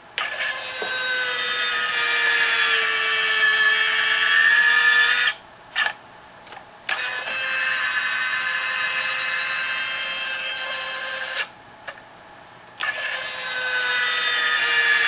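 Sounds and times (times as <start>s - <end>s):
small gear motor whining: 0.2s - 5.9s, 6.9s - 11.5s, 12.8s - 15.0s.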